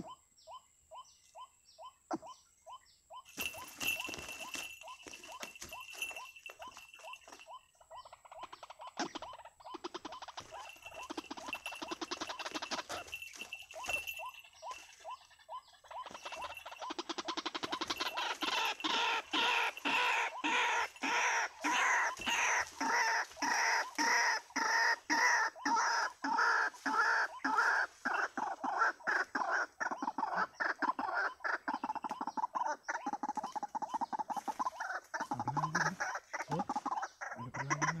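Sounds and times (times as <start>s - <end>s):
waterhen croaking calls: 0.0s - 38.0s.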